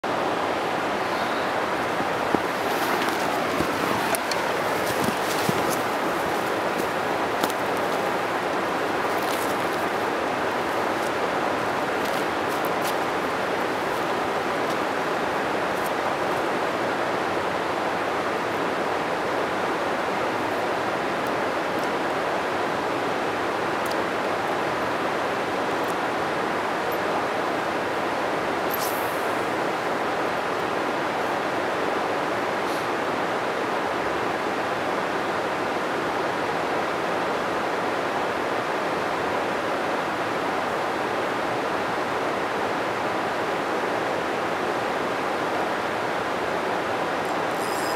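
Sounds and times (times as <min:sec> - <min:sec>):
flowing river water: 0:00.0 - 0:47.9.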